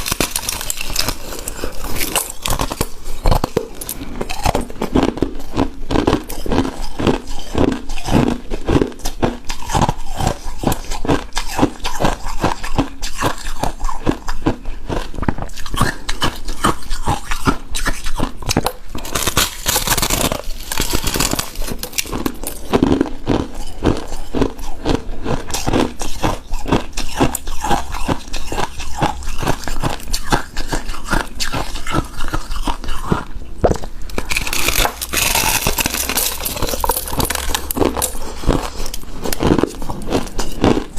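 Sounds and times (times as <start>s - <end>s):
crunchy chewing of shaved ice: 0.0s - 40.9s.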